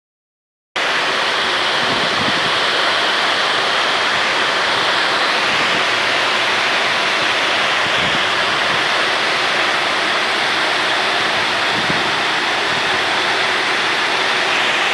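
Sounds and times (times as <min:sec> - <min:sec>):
heavy rain pouring: 0:00.8 - 0:14.9.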